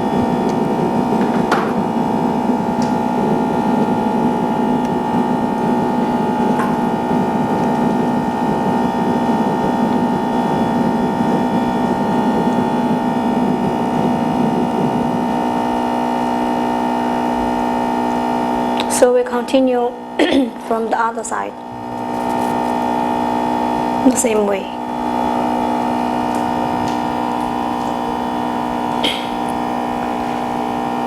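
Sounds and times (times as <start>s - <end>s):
steady electrical hum: 0.0s - 31.0s.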